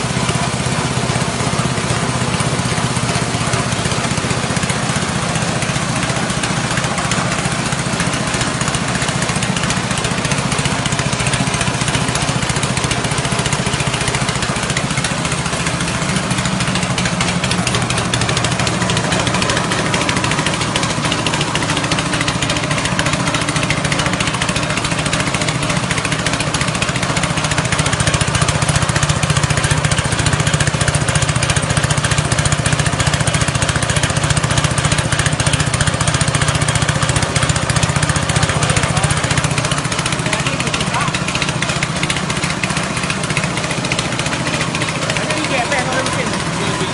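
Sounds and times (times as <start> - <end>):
grinding mill rush: 0.0 - 46.9
petrol engine droning: 0.0 - 46.9.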